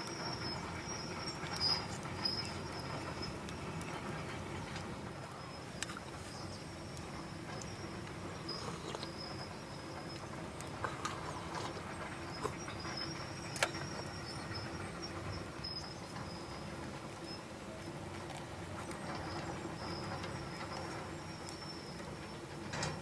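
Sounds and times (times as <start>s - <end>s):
campfire hiss: 0.0s - 23.0s.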